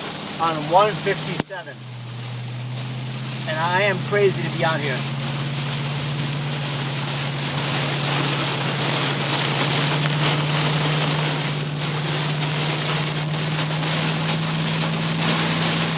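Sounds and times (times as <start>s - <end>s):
car road noise hum and hiss: 0.0s - 15.9s.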